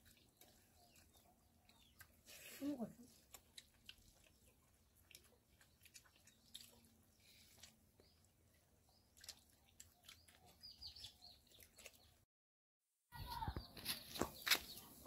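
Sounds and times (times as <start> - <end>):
chewing: 0.0 - 12.2.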